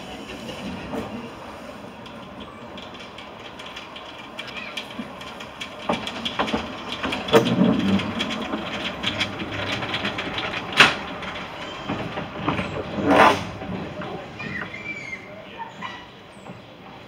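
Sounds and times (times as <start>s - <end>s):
steam locomotive noisy bursts: 0.0s - 17.0s
train wheels clattering over rail joints: 0.0s - 17.0s.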